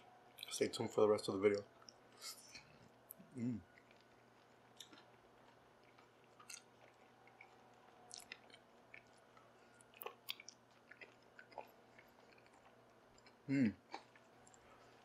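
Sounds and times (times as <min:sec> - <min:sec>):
man chewing and biting: 0:01.8 - 0:15.0.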